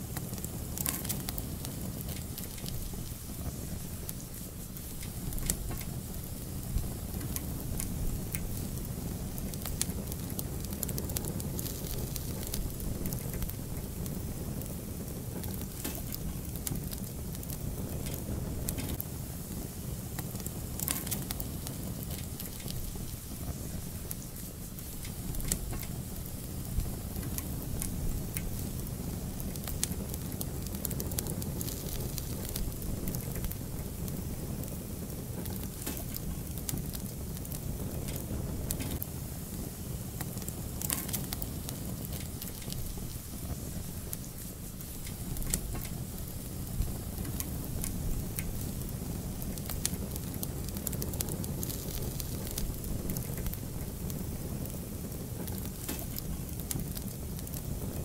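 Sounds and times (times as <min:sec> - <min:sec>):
fire crackles and pops: 0:00.0 - 0:58.0
fire rumbling: 0:00.0 - 0:58.0.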